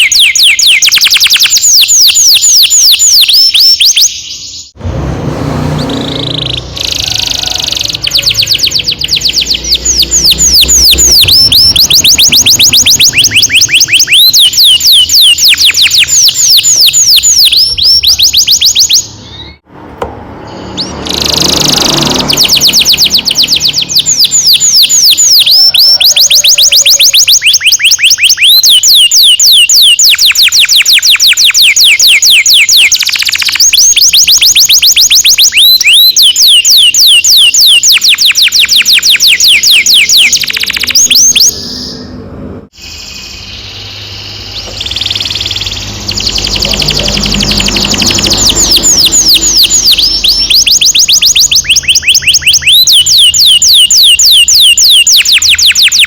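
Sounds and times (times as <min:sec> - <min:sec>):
canary singing rolling song: 0:00.0 - 0:56.0.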